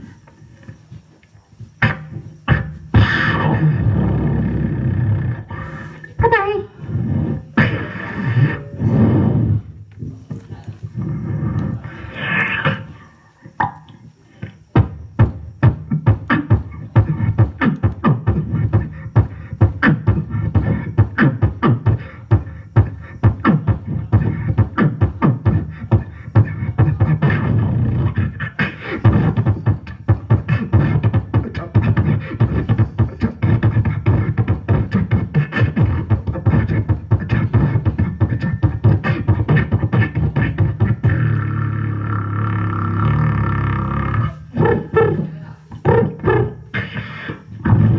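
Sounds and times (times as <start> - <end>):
beatboxing: 0.0 - 47.9.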